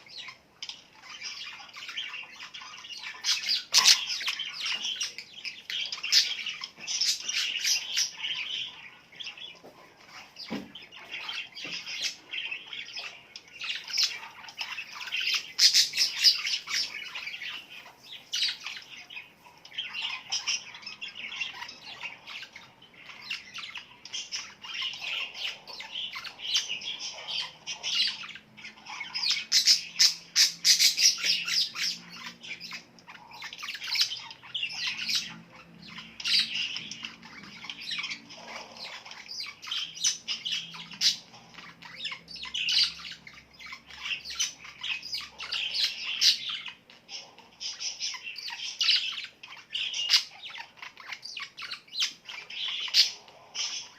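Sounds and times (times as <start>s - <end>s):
flock of small birds chirping: 0.0s - 53.9s.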